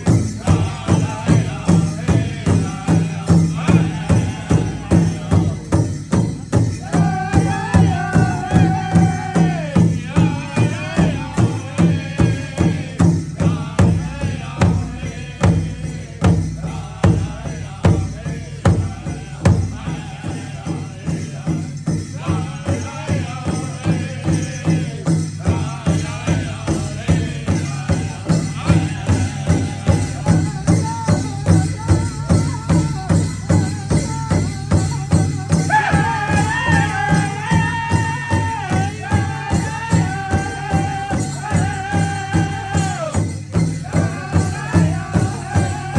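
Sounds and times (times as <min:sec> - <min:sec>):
high singing voices: 0:00.0 - 0:45.9
steady drum beats: 0:00.0 - 0:45.9.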